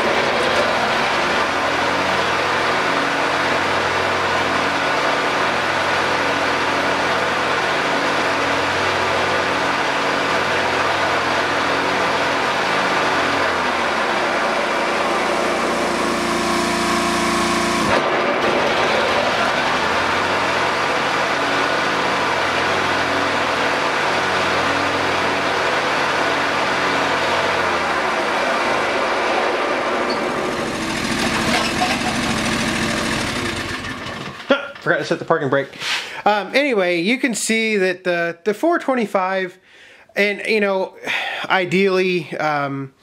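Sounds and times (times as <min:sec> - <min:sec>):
garden tractor engine running: 0:00.0 - 0:35.6.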